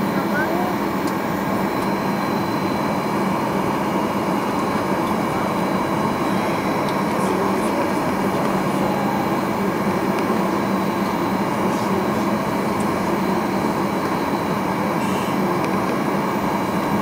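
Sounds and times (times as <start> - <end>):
airplane cabin drone: 0.0 - 17.0.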